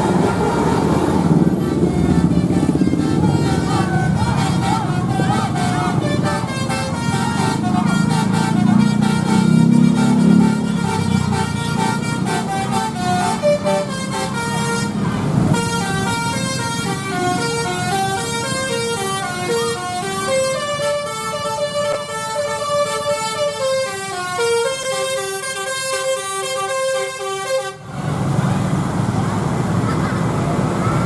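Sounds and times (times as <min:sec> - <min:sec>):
musical bus horn tune: 0:00.0 - 0:27.9
bus engine rumble: 0:00.0 - 0:31.0.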